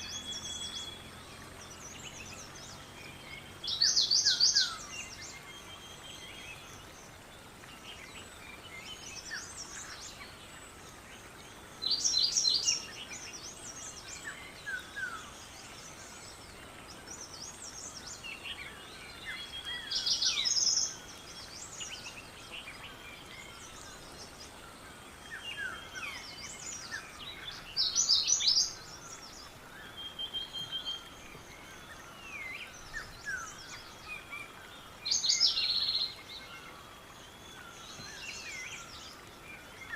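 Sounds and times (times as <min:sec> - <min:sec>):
faint outdoor hiss: 0:00.0 - 0:39.9
soft bird chirps: 0:00.0 - 0:39.9.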